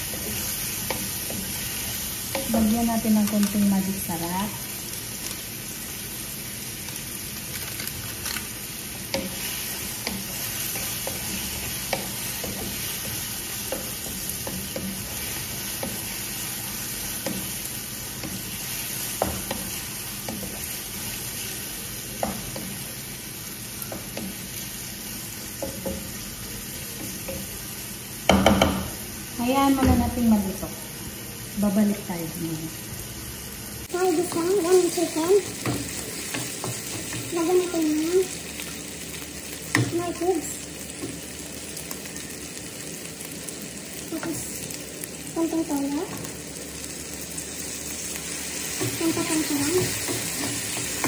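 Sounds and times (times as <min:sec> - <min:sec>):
chicken sizzling in a frying pan: 0:00.0 - 0:51.0.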